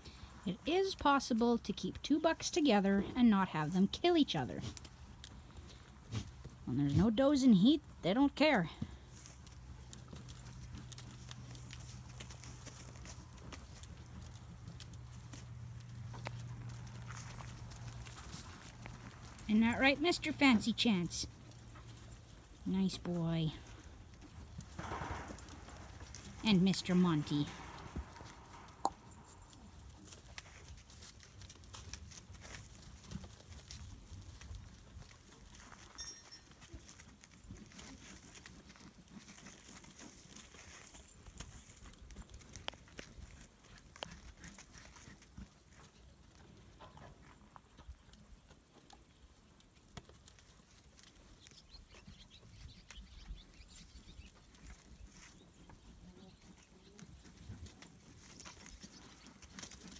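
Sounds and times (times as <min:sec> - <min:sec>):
goat hooves scuffing on dirt: 0:00.0 - 0:59.9.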